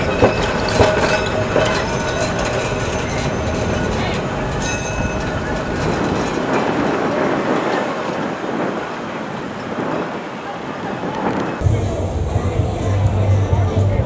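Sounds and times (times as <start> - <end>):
high wheel squeal: 0.0 - 14.0
tram wheels rumbling on rails: 0.0 - 14.0.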